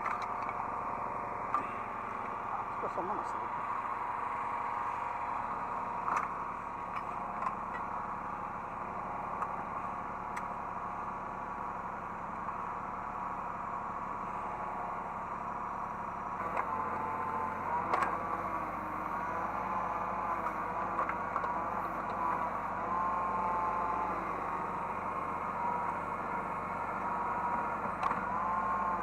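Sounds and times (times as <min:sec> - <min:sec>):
excavator engine running: 0:00.0 - 0:29.0.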